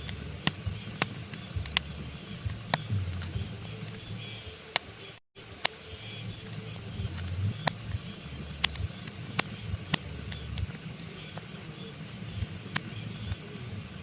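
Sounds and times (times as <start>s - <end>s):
low rumble of flames: 0.0s - 4.2s, 6.2s - 14.0s
fire crackling and popping: 0.0s - 14.0s.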